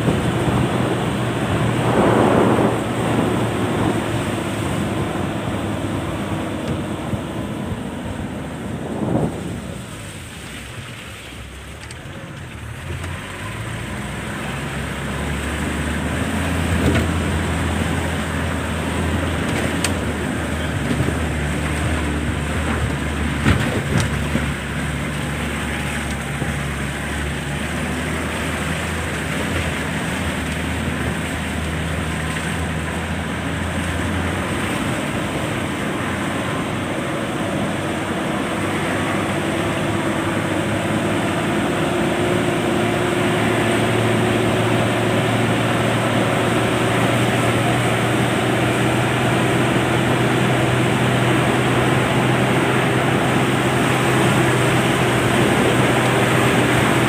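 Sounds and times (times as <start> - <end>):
road noise: 0.0 - 57.0
vehicle engine hum: 0.0 - 57.0.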